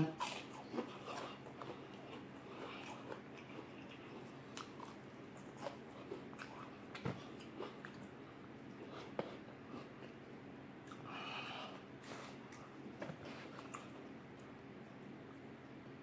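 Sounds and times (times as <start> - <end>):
man chewing: 0.1 - 15.8.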